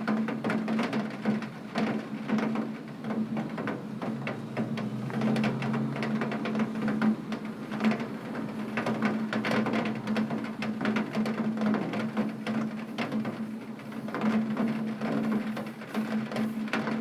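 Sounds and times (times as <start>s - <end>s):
rain tapping on window glass: 0.0s - 17.0s.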